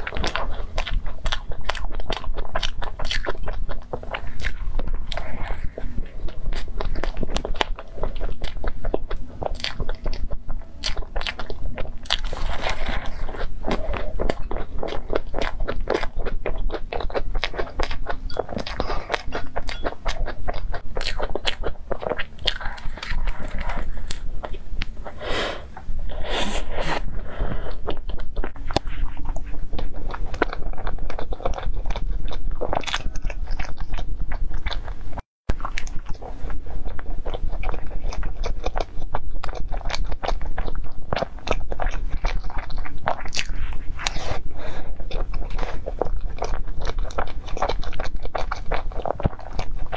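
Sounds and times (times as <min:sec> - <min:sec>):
biting and chewing pastry: 0:00.0 - 0:49.9.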